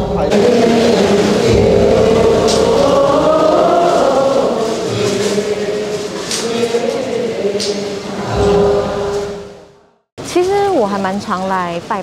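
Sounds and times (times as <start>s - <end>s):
voices chanting in unison: 0.0s - 9.6s.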